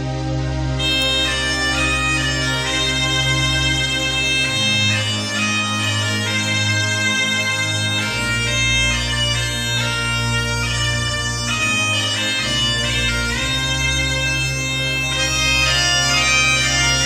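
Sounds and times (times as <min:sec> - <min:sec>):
bagpipe band playing: 0:00.0 - 0:17.0.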